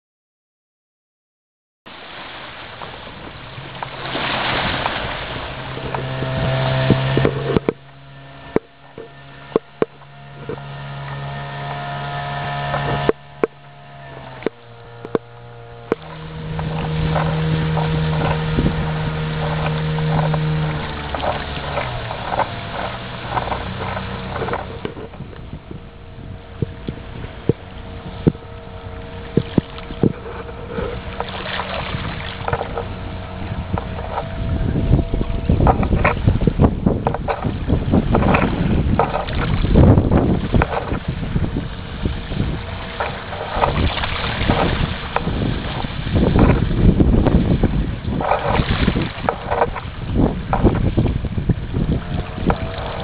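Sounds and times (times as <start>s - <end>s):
motorboat engine running: 1.9s - 53.0s
water wash: 1.9s - 53.0s
wind noise: 2.8s - 53.0s.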